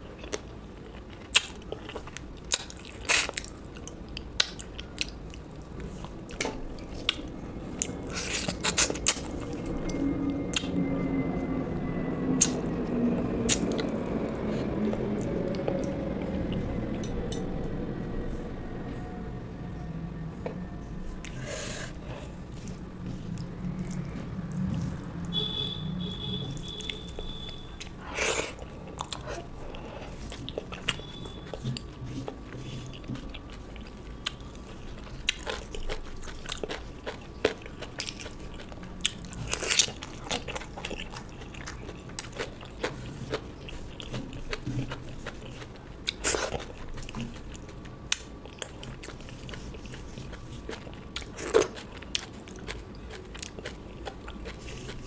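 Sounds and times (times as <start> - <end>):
person chewing and crunching: 0.0 - 10.7, 12.4 - 12.7, 21.2 - 55.0.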